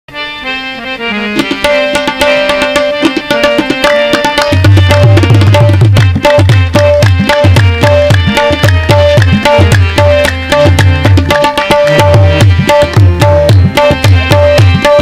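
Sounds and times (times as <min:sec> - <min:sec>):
harmonium melody: 0:00.1 - 0:15.0
tabla strokes: 0:01.3 - 0:15.0.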